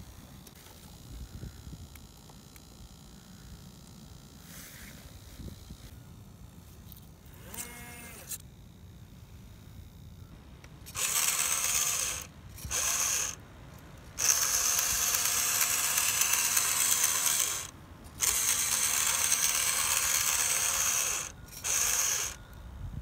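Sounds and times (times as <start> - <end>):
toy electric motor whirring: 0.0 - 5.9, 6.9 - 9.1, 10.8 - 13.4, 14.1 - 22.5.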